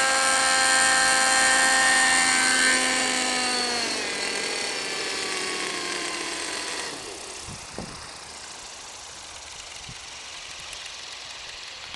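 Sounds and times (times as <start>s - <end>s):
model helicopter engine idling: 0.0s - 11.9s.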